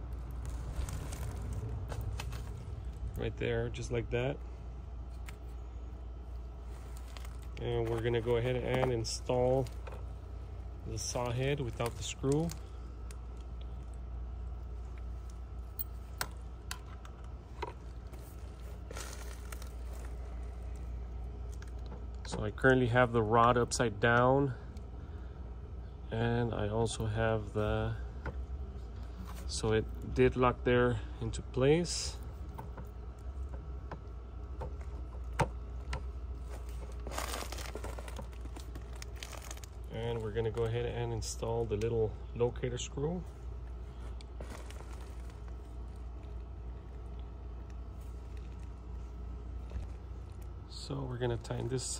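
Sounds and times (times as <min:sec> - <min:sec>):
steady low rumble: 0:00.0 - 0:51.9.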